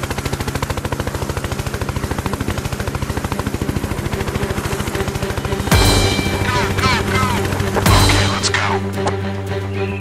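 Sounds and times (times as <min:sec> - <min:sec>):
helicopter rotor chopping: 0:00.0 - 0:09.7
engine hum: 0:00.0 - 0:10.0.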